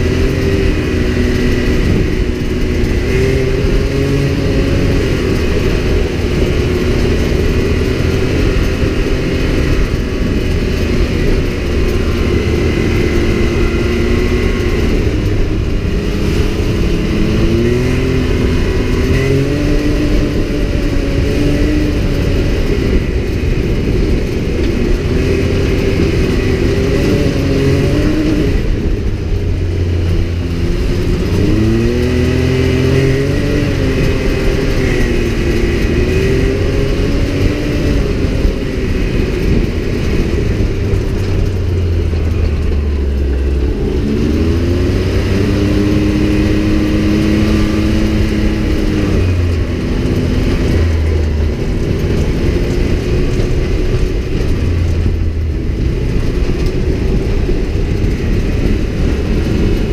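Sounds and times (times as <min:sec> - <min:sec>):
heavy rumble: 0:00.0 - 0:59.9
utility vehicle engine revving: 0:00.0 - 0:59.9.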